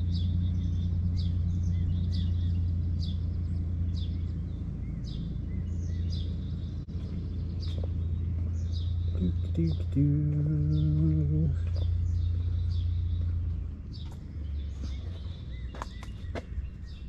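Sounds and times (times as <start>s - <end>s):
bird chirping: 0.0s - 17.0s
truck engine idling: 0.0s - 17.0s.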